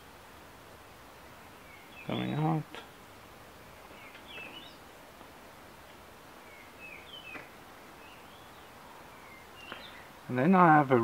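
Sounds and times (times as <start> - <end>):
faint birds chirping: 0.0 - 11.0
steady outdoor hiss: 0.0 - 11.0.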